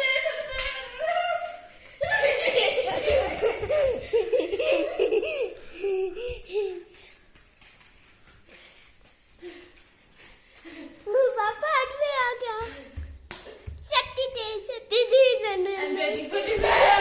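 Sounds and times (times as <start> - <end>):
children laughing and giggling: 0.0 - 7.2, 9.4 - 17.0.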